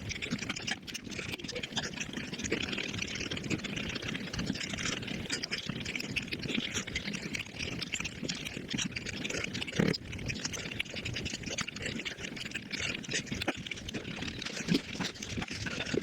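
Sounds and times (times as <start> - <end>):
rapid chewing and lip-smacking: 0.0 - 16.0
wet slurping: 0.1 - 16.0.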